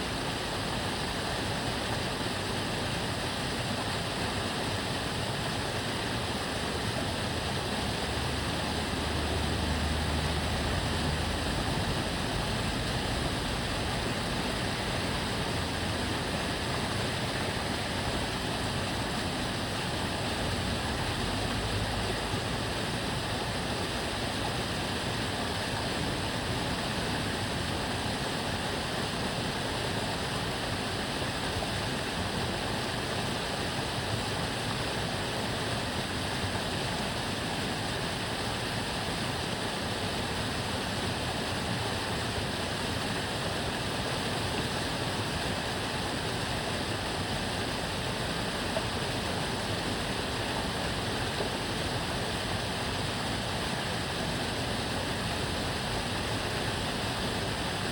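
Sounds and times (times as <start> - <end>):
canal water flowing: 0.0 - 57.9.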